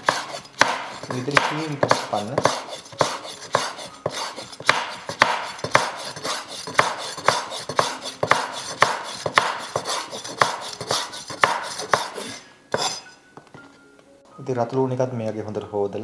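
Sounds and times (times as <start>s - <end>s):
knife slicing on cutting board: 0.0s - 13.1s.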